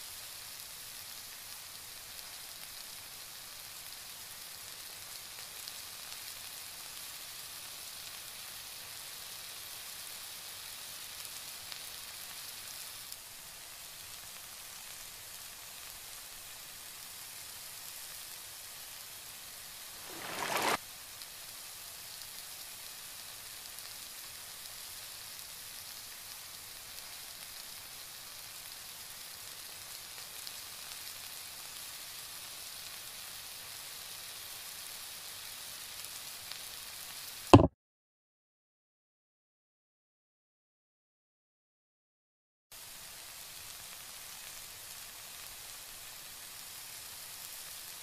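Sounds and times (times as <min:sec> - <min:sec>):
vegetables sizzling in a wok: 0:00.0 - 0:37.7, 0:42.7 - 0:48.0.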